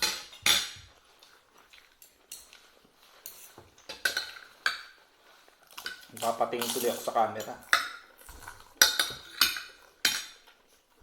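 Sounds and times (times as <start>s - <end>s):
cutlery clinking on plates: 0.0s - 1.0s, 1.9s - 5.0s, 5.8s - 10.6s.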